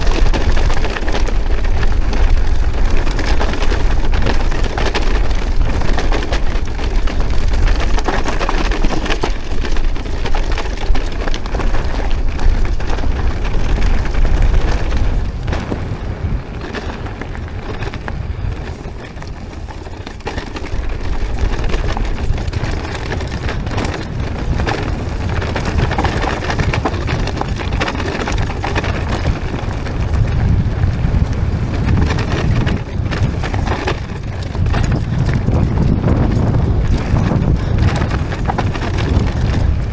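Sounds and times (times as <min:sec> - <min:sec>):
bike rattling on dirt trail: 0:00.0 - 0:39.9
wind buffeting microphone: 0:00.0 - 0:39.9.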